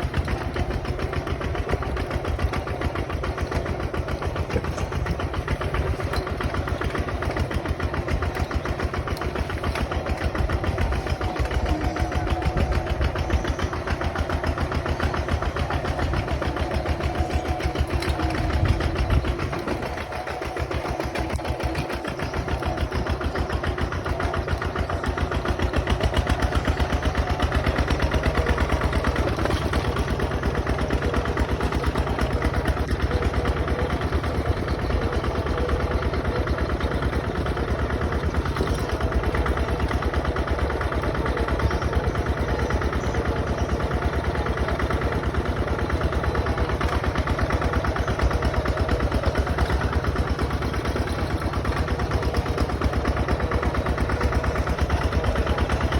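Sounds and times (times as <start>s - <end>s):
bulldozer diesel engine chugging: 0.0s - 55.9s.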